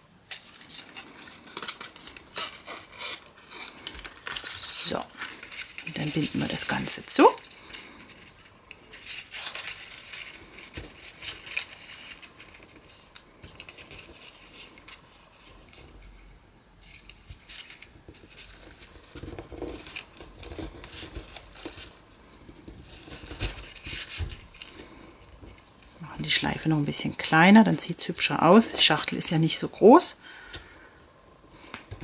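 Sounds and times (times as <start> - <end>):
paper and cord rustling: 0.2 - 30.8.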